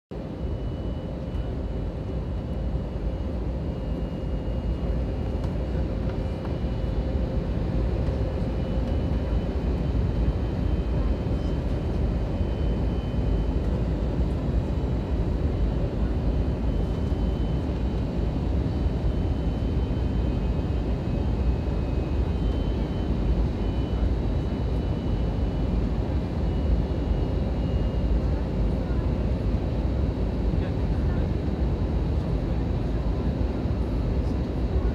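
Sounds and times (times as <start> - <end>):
aircraft cabin rumble: 0.2 - 34.9.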